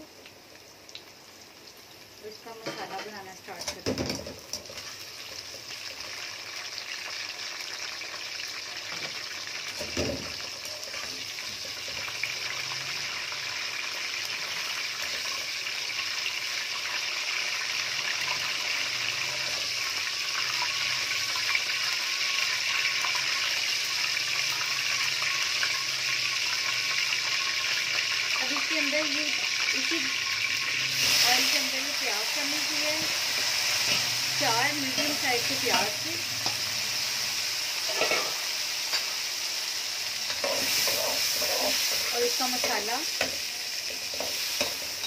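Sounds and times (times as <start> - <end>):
vegetables sizzling in hot oil: 0.0 - 45.0.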